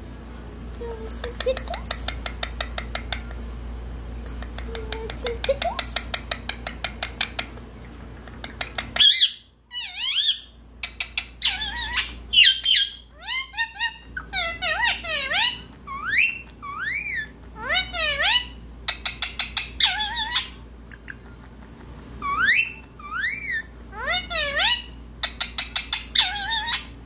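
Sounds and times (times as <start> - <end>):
parrot chirps and squawks: 1.2 - 3.4, 4.4 - 21.5, 22.2 - 27.0.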